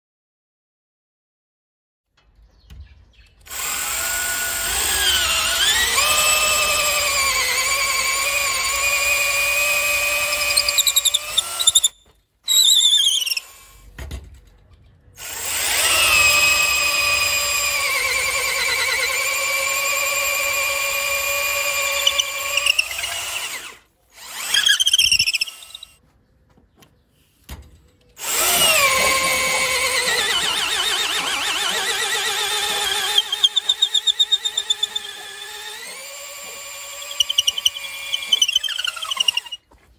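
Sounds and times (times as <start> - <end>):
cordless drill boring into wood: 3.5 - 13.8, 15.2 - 26.0, 28.2 - 39.7.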